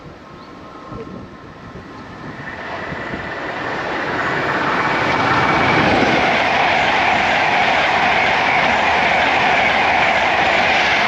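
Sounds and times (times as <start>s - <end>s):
electric train rushing: 0.2s - 11.0s.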